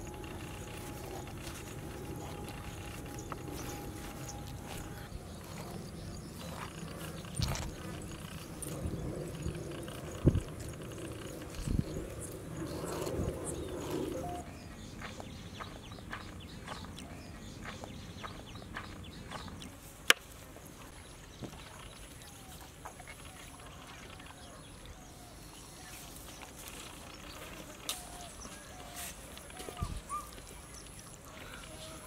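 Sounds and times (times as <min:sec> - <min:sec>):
faint bird calls: 0:00.0 - 0:19.8, 0:21.4 - 0:32.0.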